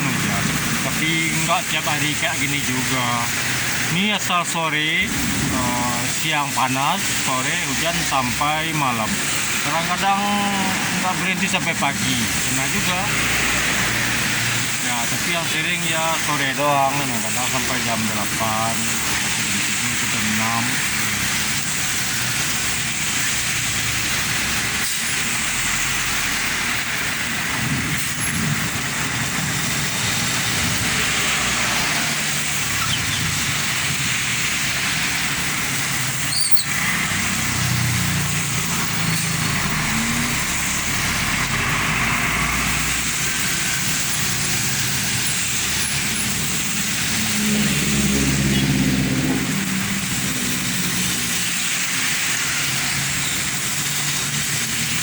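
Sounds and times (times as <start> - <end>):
passing vehicle engines rumbling: 0.0 - 55.0
rainfall hissing: 0.0 - 55.0
tyres on wet asphalt: 0.0 - 55.0.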